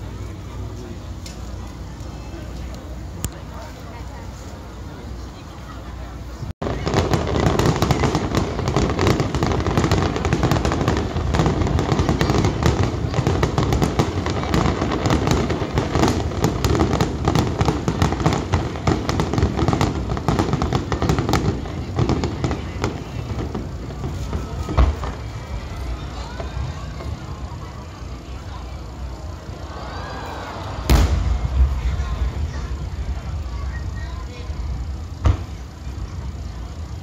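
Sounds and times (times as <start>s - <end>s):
fireworks bangs and crackles: 0.0s - 37.0s
low rolling rumble: 6.2s - 37.0s.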